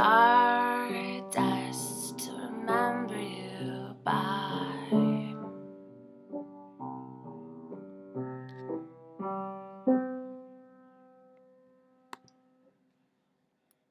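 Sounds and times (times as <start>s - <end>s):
piano chords: 0.0s - 11.8s.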